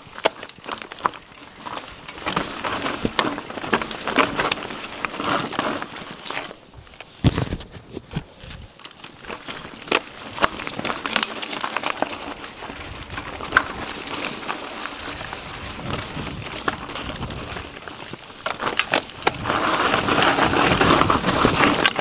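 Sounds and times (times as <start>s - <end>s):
bike clicks and knocks: 0.0s - 22.0s
bike tyres crunching on dirt: 0.0s - 22.0s.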